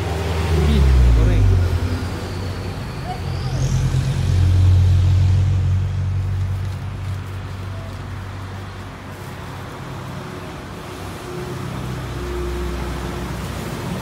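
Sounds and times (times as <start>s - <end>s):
traffic hum: 0.0s - 14.0s
vehicles passing: 0.0s - 14.0s.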